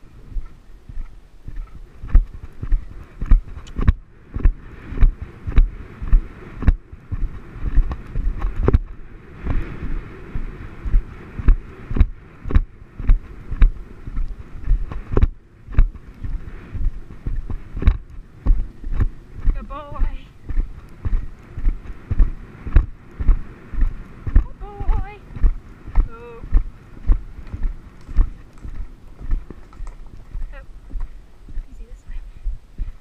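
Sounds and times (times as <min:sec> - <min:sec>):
horse hooves thudding on turf: 0:00.0 - 0:33.0
wind over microphone: 0:00.0 - 0:33.0.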